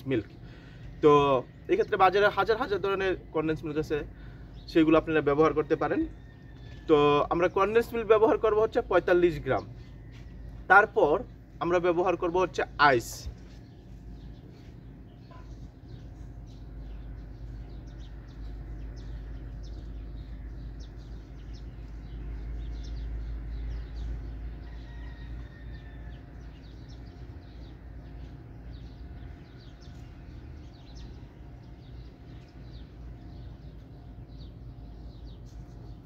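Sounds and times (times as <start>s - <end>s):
faint hum: 0.0s - 36.0s.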